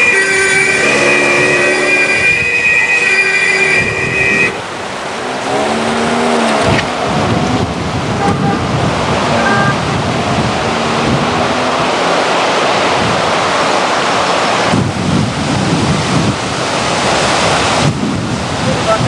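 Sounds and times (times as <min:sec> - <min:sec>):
floodwater rushing: 0:00.0 - 0:19.0
wind buffeting microphone: 0:03.6 - 0:19.0.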